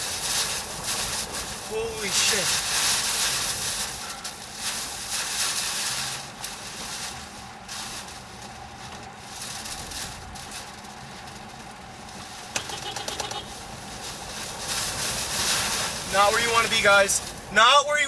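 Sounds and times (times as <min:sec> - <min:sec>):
debris pattering and rattling: 0:00.0 - 0:17.6
tornado winds rushing: 0:00.0 - 0:18.0.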